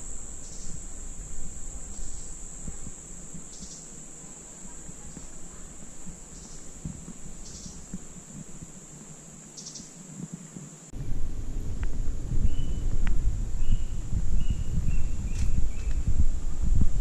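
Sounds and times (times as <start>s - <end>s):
low buzzy calls: 0.0s - 16.0s
insects droning: 0.0s - 17.0s.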